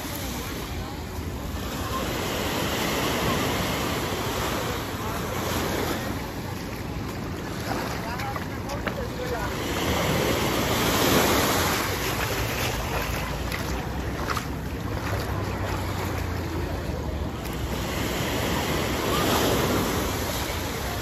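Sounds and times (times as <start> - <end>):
sea waves breaking: 0.0 - 21.0.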